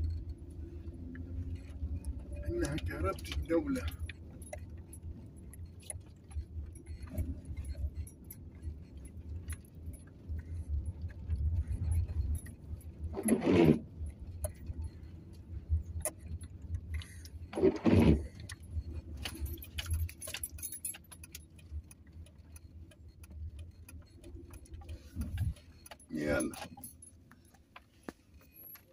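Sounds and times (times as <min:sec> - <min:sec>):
light rain ticks: 0:00.0 - 0:17.6, 0:18.4 - 0:28.9
engine and tyres on wet road: 0:00.0 - 0:28.9.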